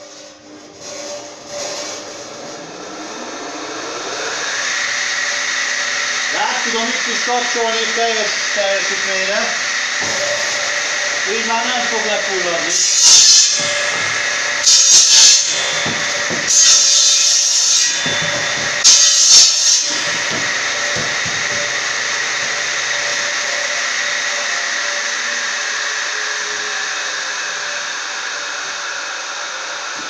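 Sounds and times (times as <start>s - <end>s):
circular saw cutting wood: 0.0s - 30.0s
saw blade spinning whine: 0.8s - 30.0s.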